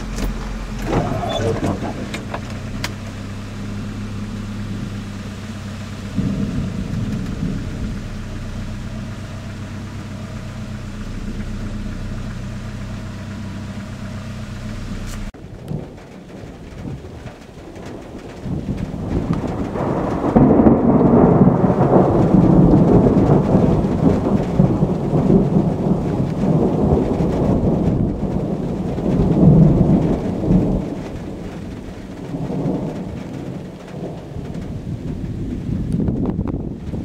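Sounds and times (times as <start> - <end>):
rolling thunder: 0.0 - 37.0.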